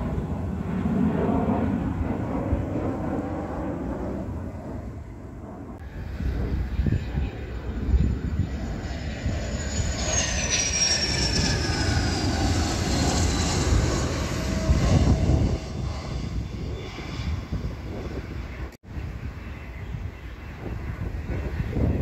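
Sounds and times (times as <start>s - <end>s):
fighter jet engine roar passing: 0.0s - 22.0s.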